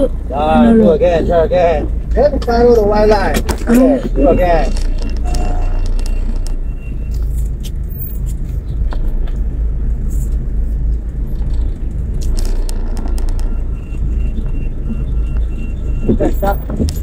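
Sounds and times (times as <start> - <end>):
car engine rumble inside cabin: 0.0 - 17.0.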